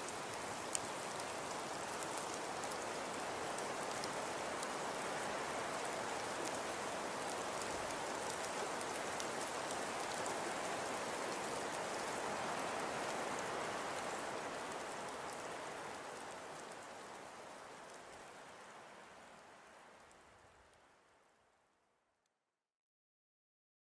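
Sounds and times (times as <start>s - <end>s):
steady rain-like hiss: 0.0s - 21.9s.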